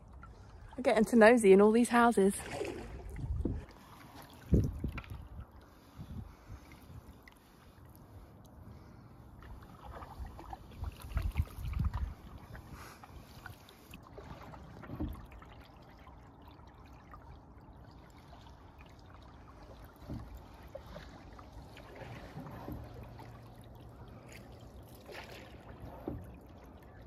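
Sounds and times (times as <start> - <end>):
water swishing around paddles: 0.0 - 27.0.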